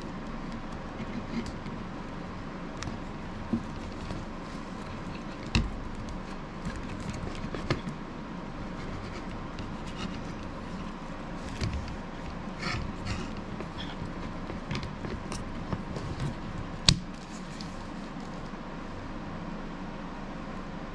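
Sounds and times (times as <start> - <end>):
rustling: 0.0 - 18.6.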